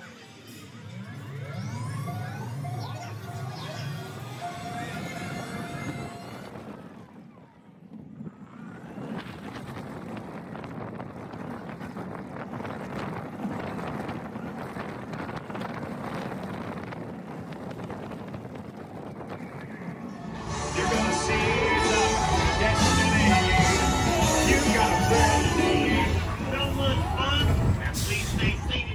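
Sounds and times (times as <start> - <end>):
roller coaster rumbling on track: 0.0 - 28.9
wind rushing over microphone: 4.8 - 28.9.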